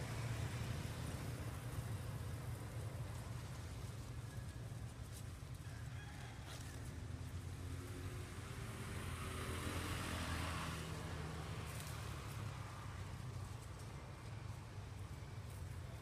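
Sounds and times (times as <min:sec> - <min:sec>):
vehicle passing on road: 0:00.0 - 0:16.0.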